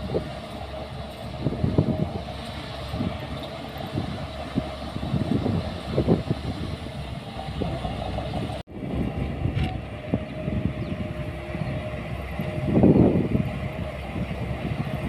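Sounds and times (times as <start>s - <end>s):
heavy machinery diesel engine running: 0.0s - 15.0s.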